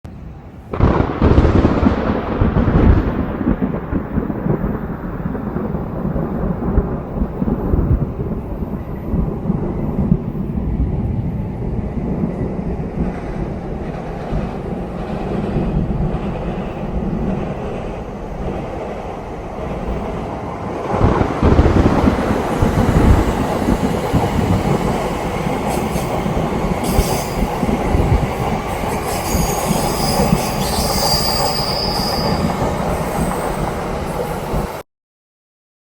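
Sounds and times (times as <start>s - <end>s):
low thunder rumble: 0.1s - 34.8s
thunder crack: 0.1s - 34.8s.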